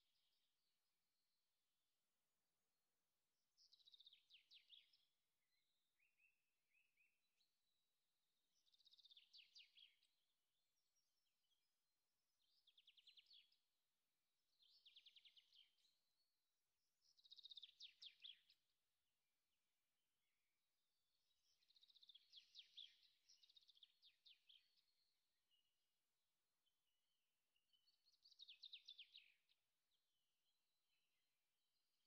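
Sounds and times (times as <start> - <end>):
faint bird song: 0.0 - 32.0.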